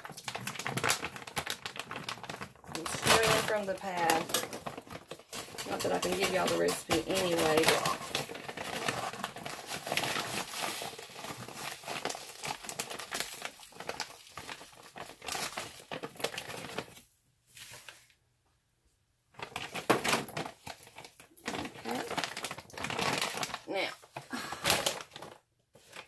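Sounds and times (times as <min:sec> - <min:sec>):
plastic bag crinkling: 0:00.0 - 0:18.1, 0:19.3 - 0:26.0.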